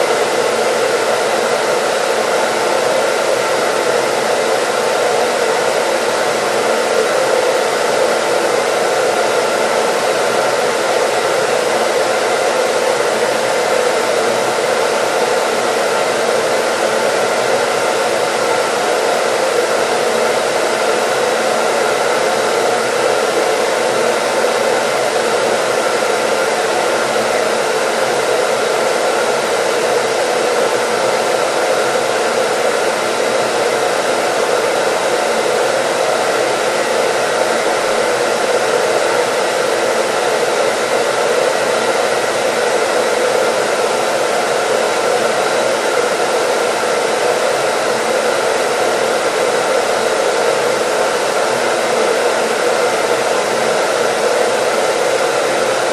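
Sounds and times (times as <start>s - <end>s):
hair dryer running: 0.0s - 55.9s.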